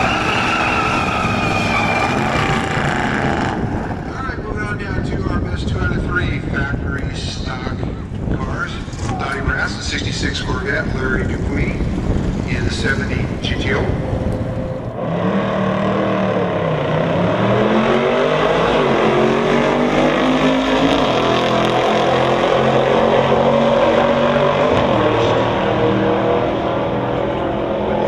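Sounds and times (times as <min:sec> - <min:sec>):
car engines accelerating: 0:00.0 - 0:05.4, 0:08.8 - 0:28.0.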